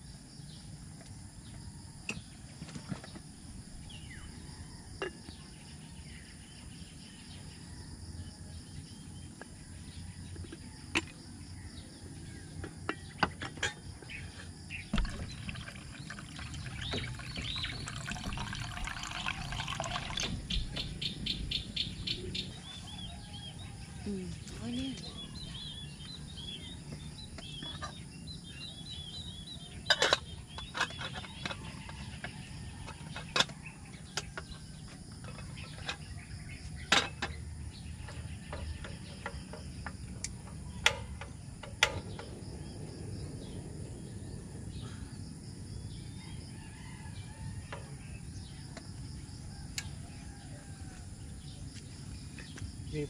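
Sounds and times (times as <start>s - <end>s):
small birds chirping: 8.7s - 53.0s.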